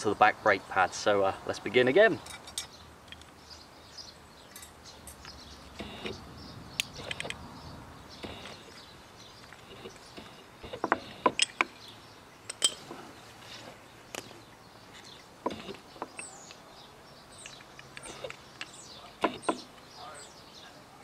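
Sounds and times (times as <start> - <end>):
birds chirping faintly: 0.0 - 21.0.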